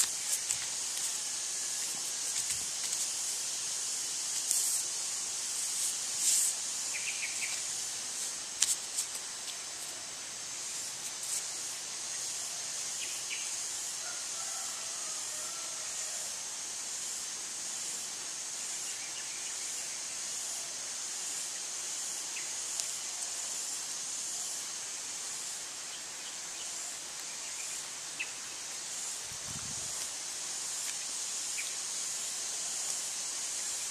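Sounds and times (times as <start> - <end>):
high-pitched outdoor hiss: 0.0 - 33.9.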